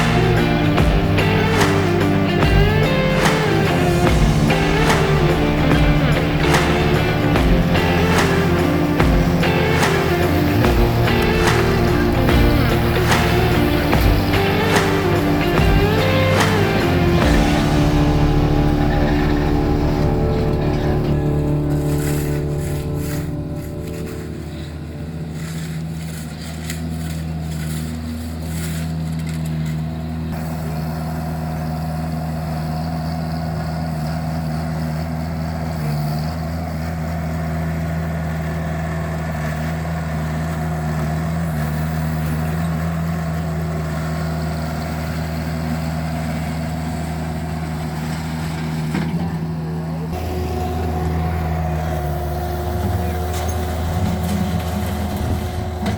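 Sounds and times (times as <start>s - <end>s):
skid steer engine running: 0.0s - 55.9s.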